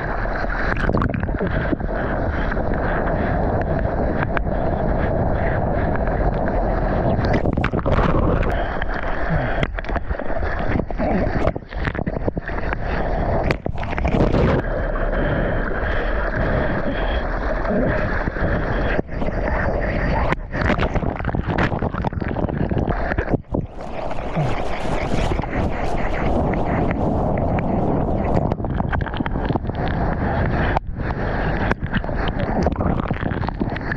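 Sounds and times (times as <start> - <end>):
seawater washing and splashing: 0.0 - 33.9
wind buffeting microphone: 0.0 - 33.9.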